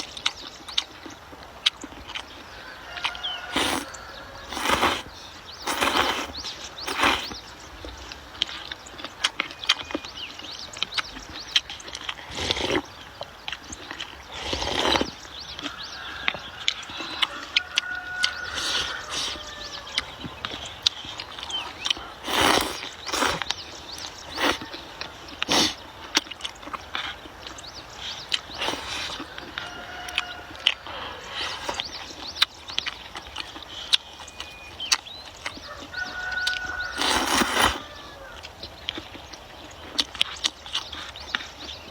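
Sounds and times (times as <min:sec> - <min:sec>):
birds chirping faintly: 0:00.0 - 0:41.9
chewing with wet smacks: 0:00.0 - 0:41.9.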